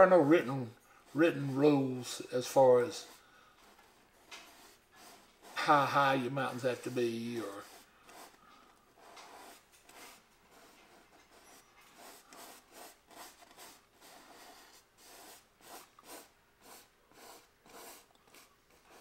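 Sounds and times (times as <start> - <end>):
paintbrush strokes on canvas: 0.0 - 19.0.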